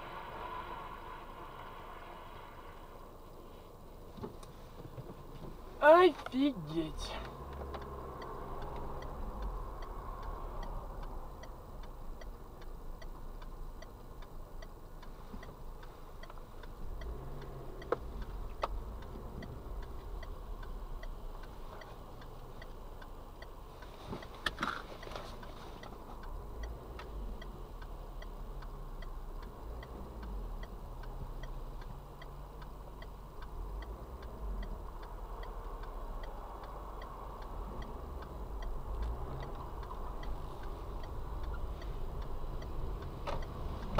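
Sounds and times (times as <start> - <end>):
low engine and road hum: 0.0 - 43.9
indicator flasher ticking: 5.8 - 23.9, 25.0 - 43.9.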